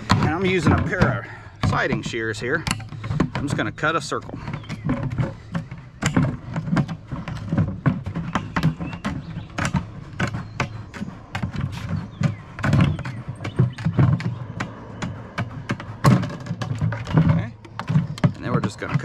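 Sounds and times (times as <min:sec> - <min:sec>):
plastic lid flexing and knocking: 0:00.0 - 0:19.0.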